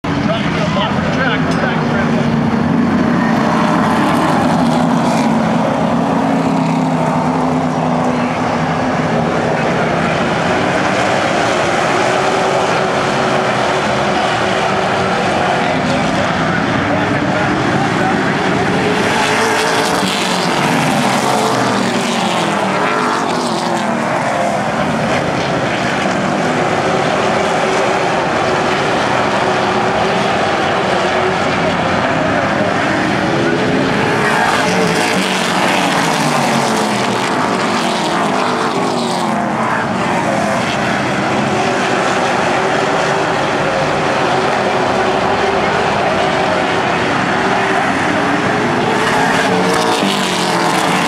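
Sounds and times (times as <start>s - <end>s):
race car engines droning: 0.0s - 51.0s.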